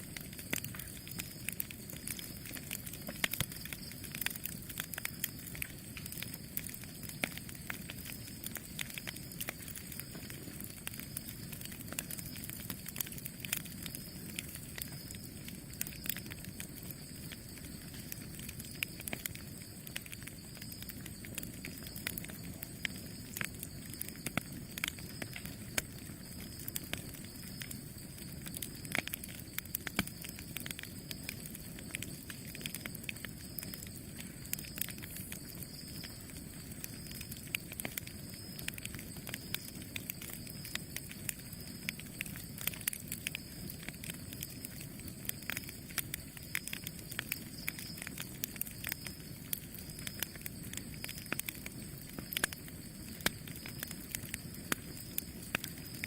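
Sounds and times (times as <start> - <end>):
burning wood crackling: 0.0 - 56.0
campfire rumble: 0.0 - 56.0.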